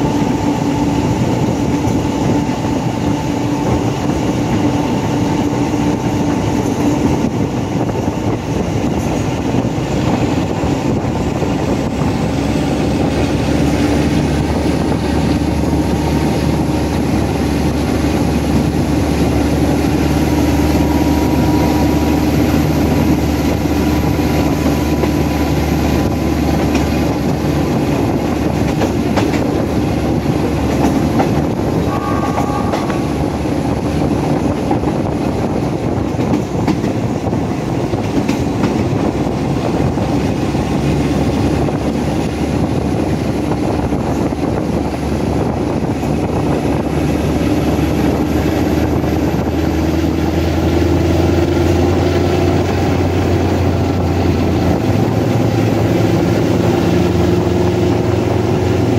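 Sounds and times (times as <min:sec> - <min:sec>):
diesel locomotive engine working hard: 0:00.0 - 0:58.9
wheels clattering on rails: 0:00.0 - 0:58.9.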